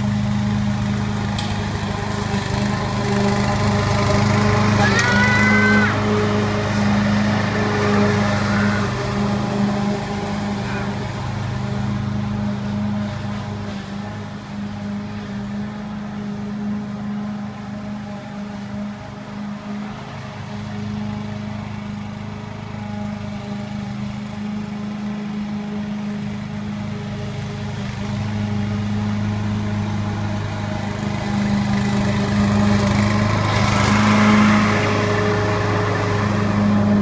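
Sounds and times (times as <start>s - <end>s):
lawn mower engine running: 0.0s - 37.0s.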